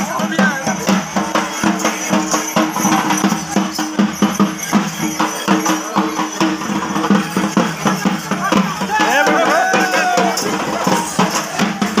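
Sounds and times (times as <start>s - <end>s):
fast drum beat: 0.0s - 12.0s
ringing metal percussion: 0.0s - 12.0s.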